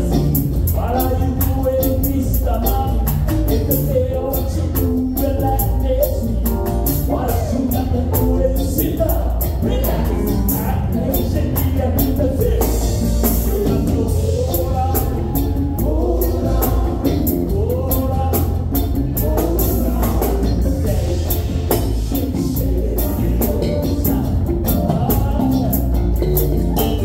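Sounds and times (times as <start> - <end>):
drum kit beat: 0.0 - 27.0
electric guitars: 0.0 - 27.0
keyboard: 0.0 - 27.0
person singing: 0.0 - 27.0.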